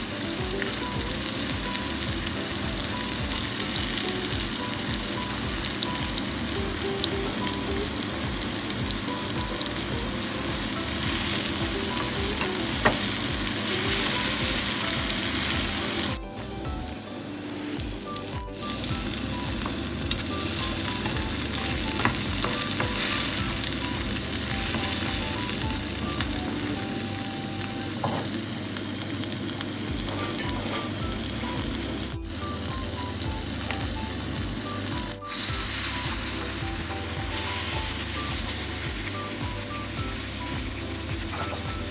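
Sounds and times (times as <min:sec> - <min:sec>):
vegetables sizzling in oil: 0:00.0 - 0:41.9.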